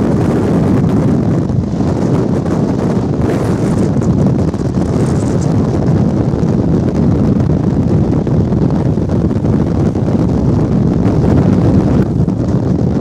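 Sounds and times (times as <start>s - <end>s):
train low rumble: 0.0s - 13.0s
wind buffeting microphone: 0.0s - 13.0s.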